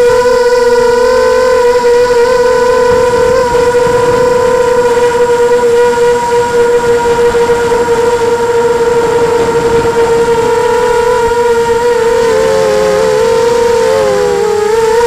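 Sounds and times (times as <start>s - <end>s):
drone motors humming: 0.0s - 15.0s
wind rushing over microphone: 0.0s - 15.0s.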